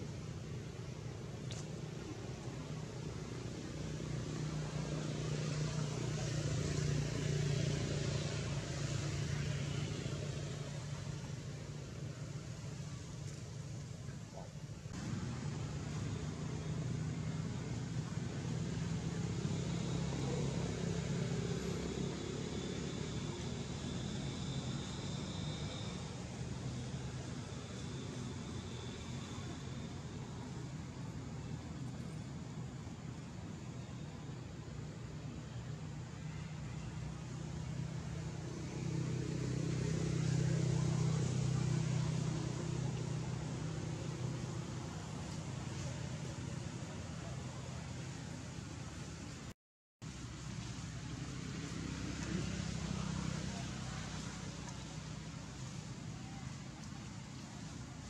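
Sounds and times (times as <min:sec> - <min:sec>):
faint high whine: 0:00.0 - 0:49.5
low engine hum: 0:00.0 - 0:58.0.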